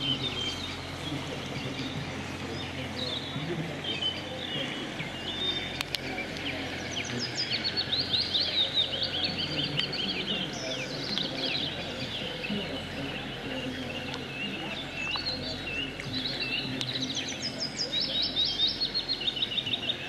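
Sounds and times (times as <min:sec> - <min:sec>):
outdoor background noise: 0:00.0 - 0:20.0
small birds chirping and singing: 0:00.0 - 0:20.0.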